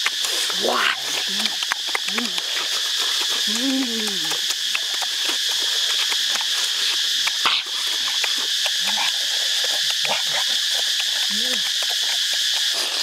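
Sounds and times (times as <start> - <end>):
insects droning: 0.0 - 13.0
person chewing and smacking: 0.0 - 13.0.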